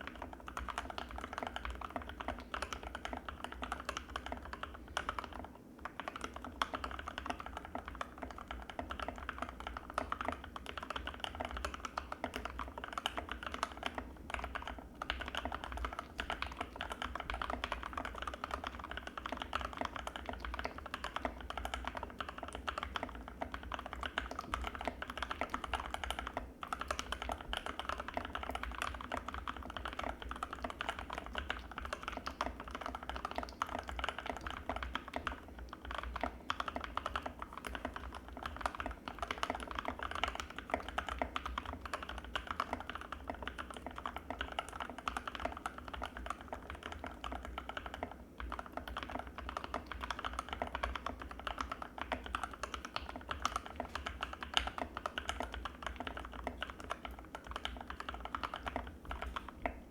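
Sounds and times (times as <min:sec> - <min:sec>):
fast typing on mechanical keyboard: 0:00.0 - 0:59.9.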